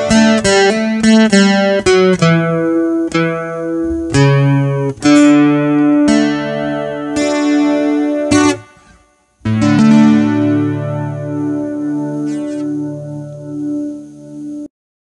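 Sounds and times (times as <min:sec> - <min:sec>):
acoustic guitar playing: 0:00.0 - 0:14.7.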